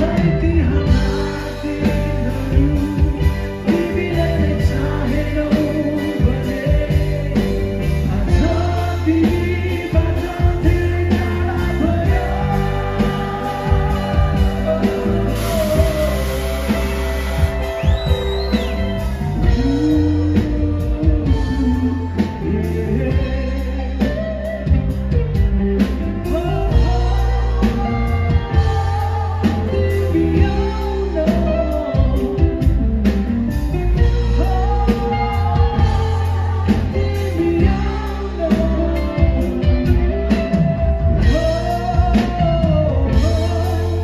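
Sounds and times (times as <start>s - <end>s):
live rock band: 0.0s - 44.0s
male lead vocal: 0.0s - 44.0s.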